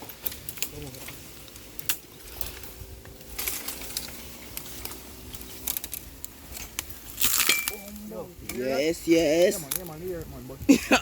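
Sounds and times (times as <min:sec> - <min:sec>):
twigs cracking and rustling: 0:00.0 - 0:10.6.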